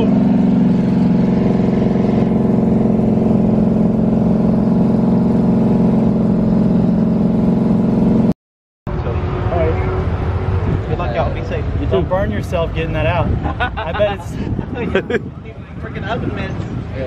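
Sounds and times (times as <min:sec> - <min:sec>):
car engine and exhaust droning: 0:00.0 - 0:08.3, 0:08.9 - 0:17.0.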